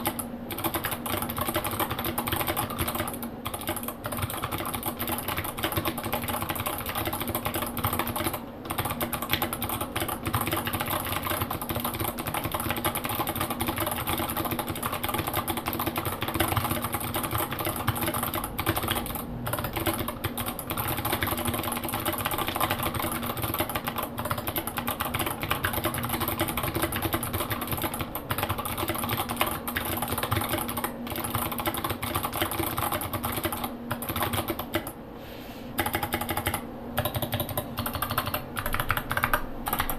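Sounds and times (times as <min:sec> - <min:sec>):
clicky mechanical keyboard typing: 0:00.0 - 0:35.0, 0:35.8 - 0:39.9.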